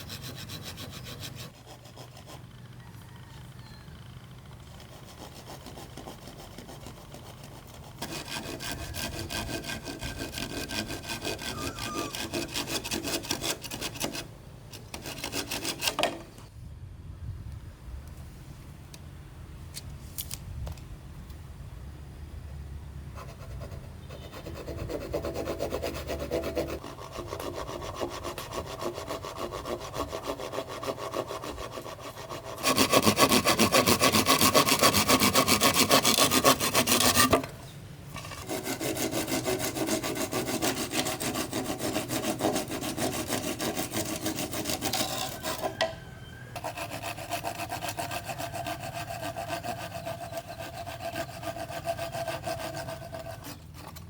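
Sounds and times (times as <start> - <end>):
saw cutting bamboo: 0.0 - 2.8, 4.6 - 16.3, 24.2 - 37.6, 38.2 - 54.0.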